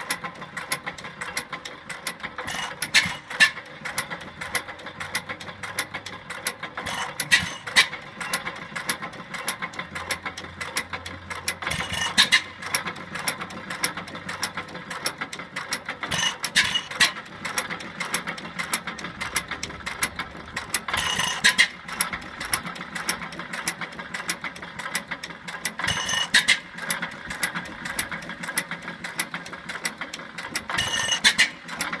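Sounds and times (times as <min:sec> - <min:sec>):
flywheel engine clattering: 0:00.0 - 0:32.0.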